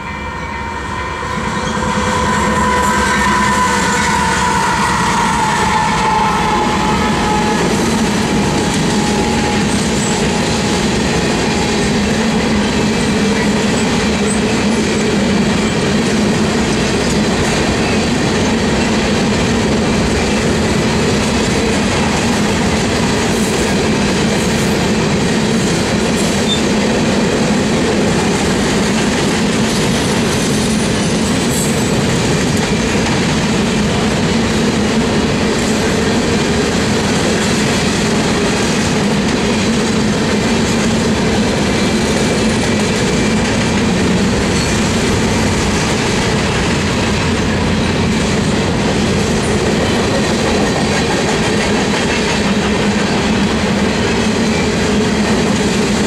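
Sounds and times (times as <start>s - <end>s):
high locomotive tone: 0.0s - 56.0s
train wheels rumbling on rails: 0.0s - 56.0s.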